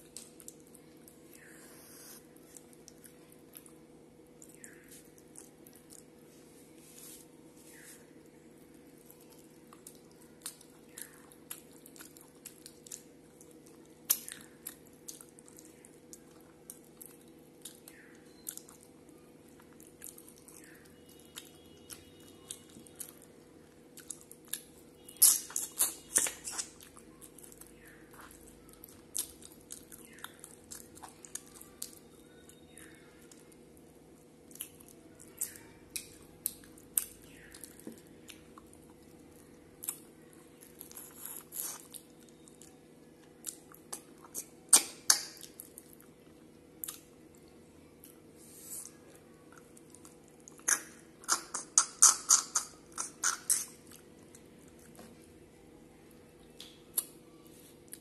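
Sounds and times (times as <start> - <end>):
person chewing food: 0.0 - 55.2, 56.4 - 58.0
faint steady hum: 0.0 - 58.0.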